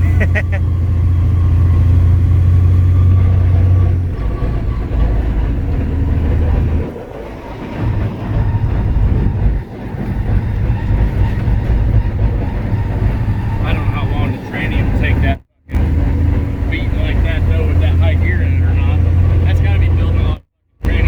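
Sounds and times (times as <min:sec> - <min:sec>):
truck engine low drone: 0:00.0 - 0:21.0.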